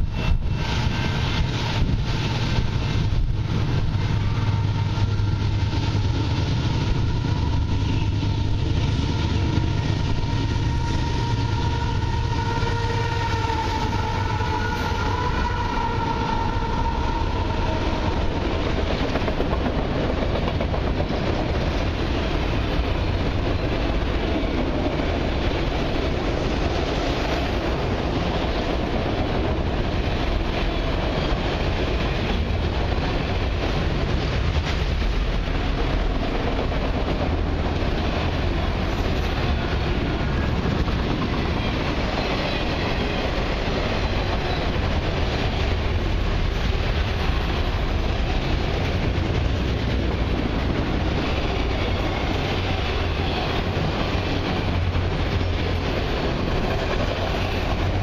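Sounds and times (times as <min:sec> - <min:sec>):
locomotive engine hum with whine: 0:00.0 - 0:58.0
rail cars rumbling and clattering: 0:00.0 - 0:58.0.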